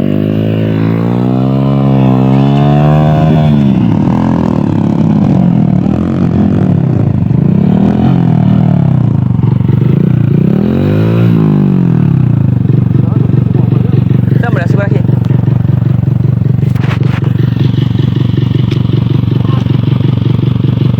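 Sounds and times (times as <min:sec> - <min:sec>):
dirt bike engines revving: 0:00.0 - 0:20.9.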